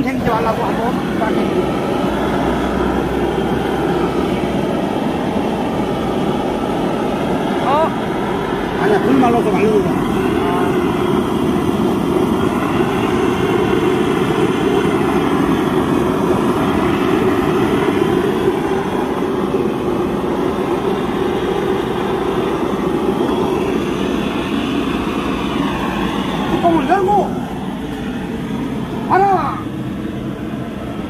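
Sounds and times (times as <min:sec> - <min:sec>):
gas torch flame roaring: 0:00.0 - 0:31.0.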